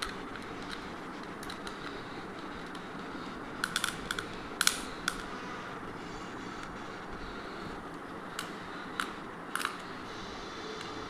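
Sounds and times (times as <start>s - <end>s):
plastic parts clicking and tapping: 0.0s - 5.5s, 6.6s - 10.1s, 10.7s - 11.0s
steady low hiss: 0.0s - 11.0s.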